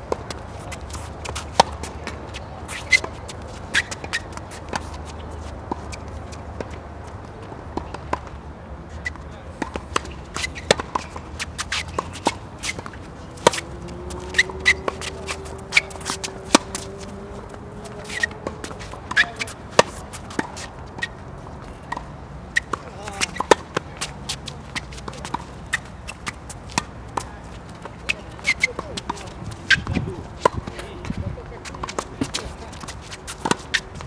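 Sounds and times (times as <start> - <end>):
racket strokes popping: 0.1 - 6.9, 9.0 - 21.2, 21.9 - 30.9, 31.7 - 34.0
tennis ball bounces: 0.1 - 8.4, 9.0 - 34.0
shoe squeaks and clicks: 0.6 - 6.5, 8.9 - 23.6, 24.2 - 27.4, 28.0 - 30.6, 32.2 - 34.0.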